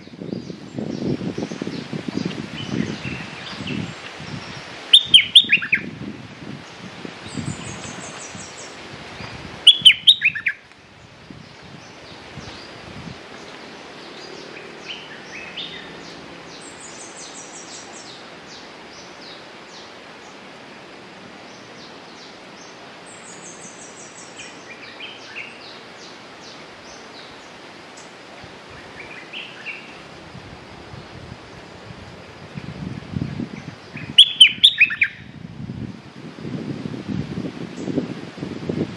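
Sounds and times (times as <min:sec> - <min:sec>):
birds calling faintly: 0:00.0 - 0:05.9, 0:06.6 - 0:32.6, 0:33.2 - 0:35.3
steady forest hiss: 0:00.0 - 0:38.9.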